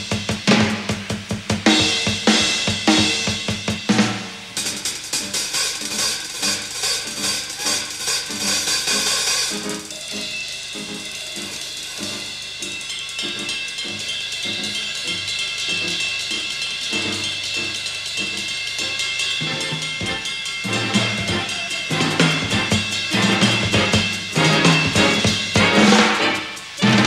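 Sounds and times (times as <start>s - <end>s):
cymbal crashes: 0.0s - 27.0s
ringing cymbal: 0.0s - 27.0s
tom drum strokes: 0.0s - 27.0s.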